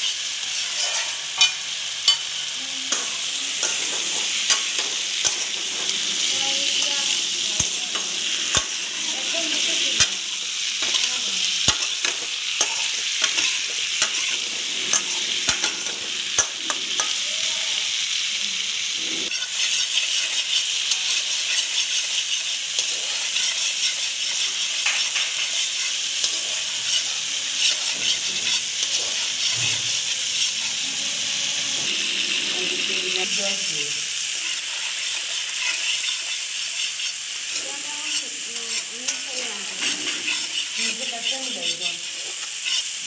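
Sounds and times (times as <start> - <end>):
metal spatula scraping pan: 0.0 - 17.4, 19.0 - 43.0
potatoes sizzling in hot oil: 0.0 - 43.0.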